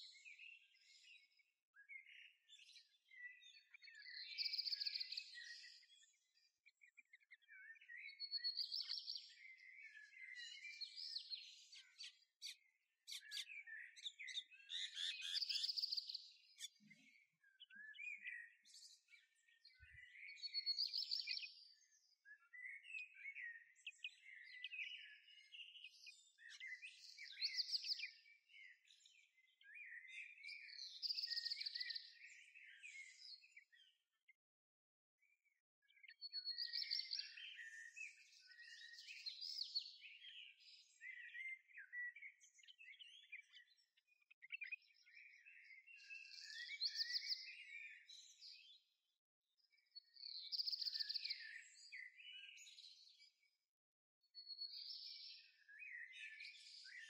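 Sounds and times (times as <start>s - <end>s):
soft bird chirps and twitters: 0.0s - 57.0s
songbird song phrase: 0.0s - 57.0s.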